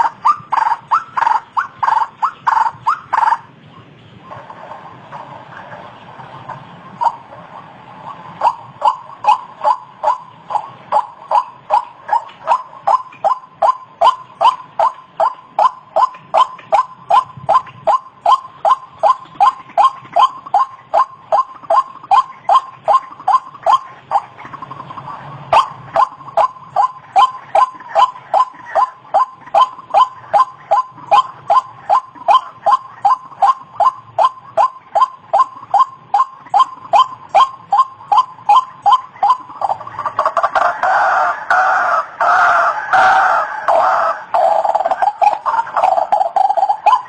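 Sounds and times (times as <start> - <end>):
waterhen calling: 0.0 - 47.0.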